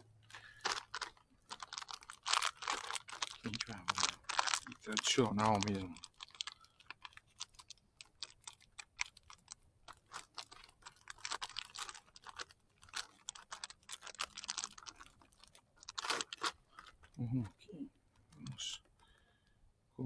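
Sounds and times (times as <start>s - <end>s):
plastic wrapper crinkling: 0.0s - 17.4s, 18.1s - 19.2s.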